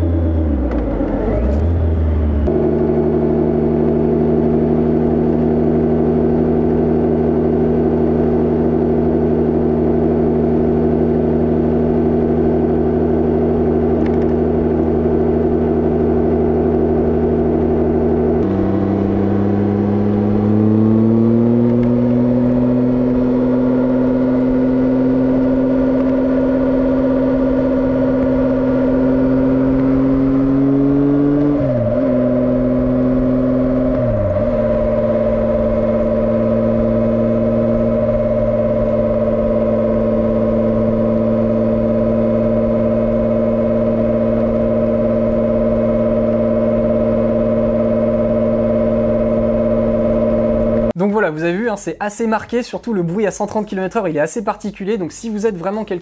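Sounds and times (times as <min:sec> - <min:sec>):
motorcycle tyres droning on asphalt: 0:00.0 - 0:51.0.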